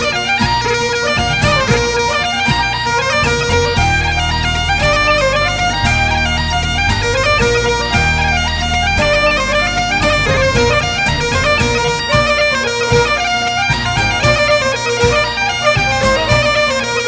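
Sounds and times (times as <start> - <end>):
bagpipes playing over drone: 0.0 - 17.0
low pulsing beat: 1.0 - 16.9.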